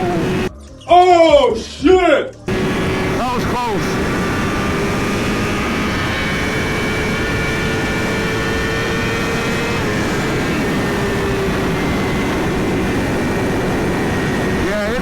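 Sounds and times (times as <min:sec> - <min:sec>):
motorcycle engine cruising: 0:00.0 - 0:00.5, 0:02.5 - 0:15.0
wind rush on microphone: 0:02.5 - 0:15.0.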